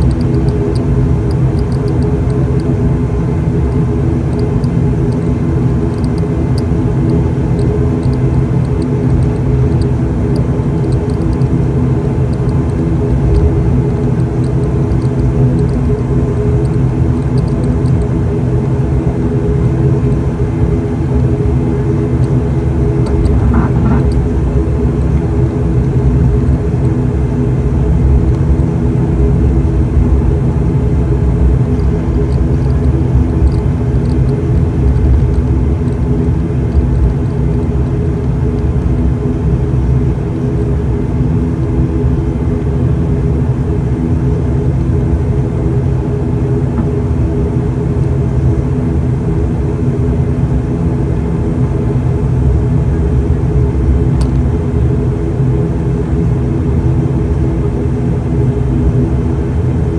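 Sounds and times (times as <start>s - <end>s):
turboprop engine droning: 0.0s - 59.9s.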